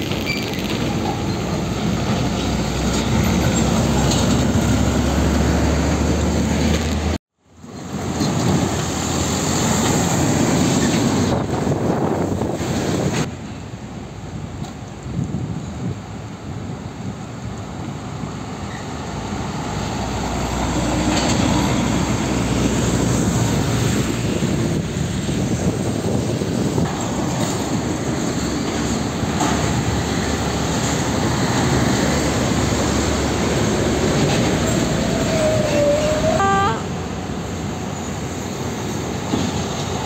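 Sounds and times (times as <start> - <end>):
container trailers rattling: 0.0 - 14.9, 17.9 - 36.4
truck diesel engines and tyres: 0.0 - 40.0.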